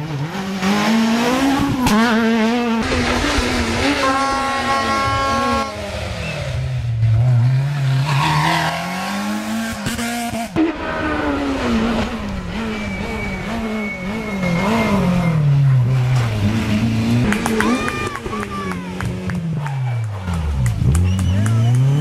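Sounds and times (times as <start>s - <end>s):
rally car engines racing past: 0.0s - 22.0s.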